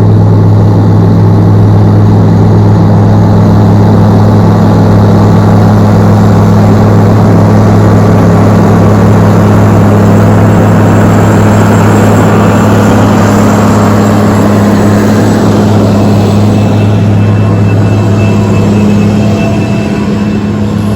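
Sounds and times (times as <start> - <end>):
tractor diesel engine drone: 0.0 - 20.9.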